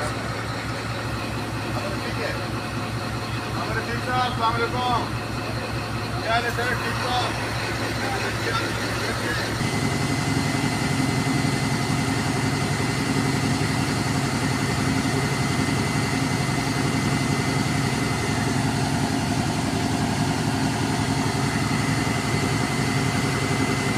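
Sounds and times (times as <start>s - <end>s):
diesel locomotive idling: 0.0s - 23.9s.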